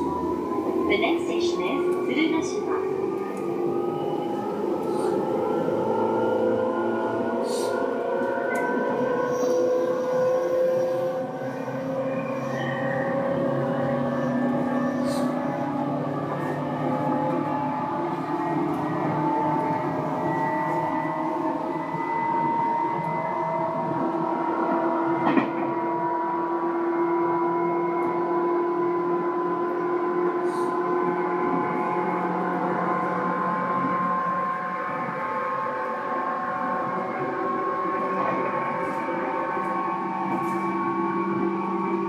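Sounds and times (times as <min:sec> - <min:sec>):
train traction whine: 0:00.0 - 0:42.0
wheel and rail rumble: 0:00.0 - 0:42.0.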